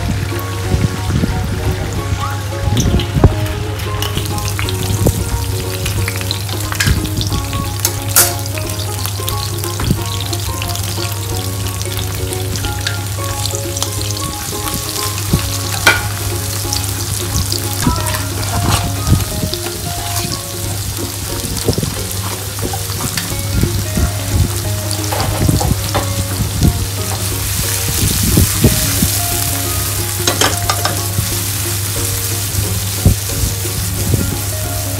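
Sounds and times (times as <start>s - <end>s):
oil sizzling in a frying pan: 0.0s - 34.9s.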